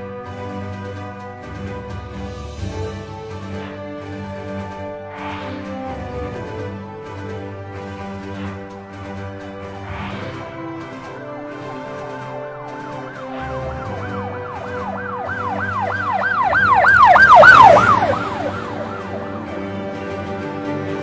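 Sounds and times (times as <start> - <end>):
background music: 0.0 - 21.0
emergency siren wailing: 0.1 - 21.0.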